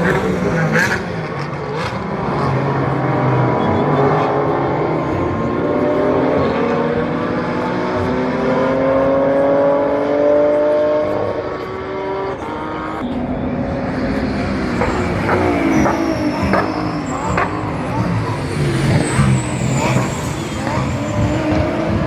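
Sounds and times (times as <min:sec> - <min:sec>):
race car engines at full throttle: 0:00.0 - 0:22.0.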